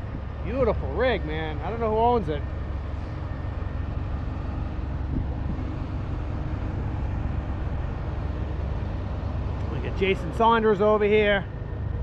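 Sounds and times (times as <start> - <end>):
low outdoor rumble and hiss: 0.0 - 12.0.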